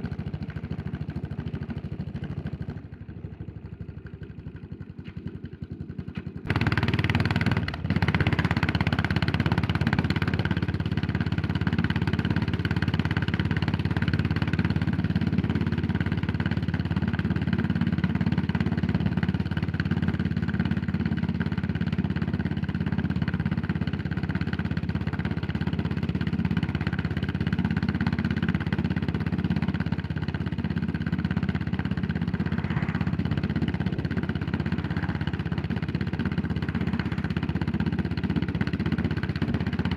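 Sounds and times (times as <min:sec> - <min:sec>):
motorcycle engine pulling away: 0:00.0 - 0:39.9.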